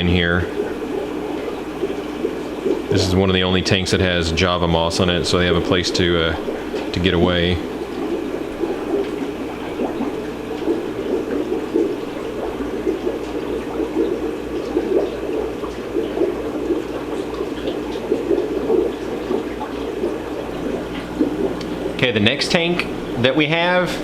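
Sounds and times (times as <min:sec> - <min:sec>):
aquarium water bubbling and splashing: 0:00.0 - 0:24.0.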